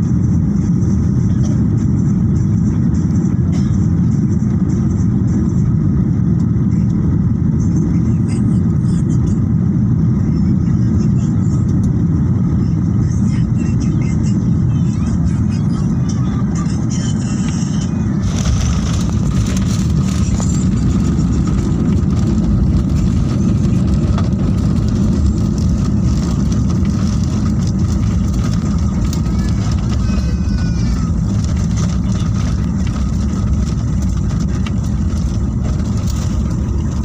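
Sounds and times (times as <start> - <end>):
airliner engine rumble in cabin: 0.0 - 37.0.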